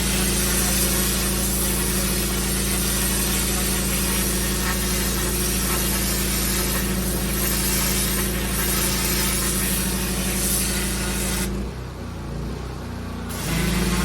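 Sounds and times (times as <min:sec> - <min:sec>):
water jet hissing on paving: 0:00.0 - 0:11.6, 0:13.3 - 0:14.0
pressure washer engine hum: 0:00.0 - 0:14.0.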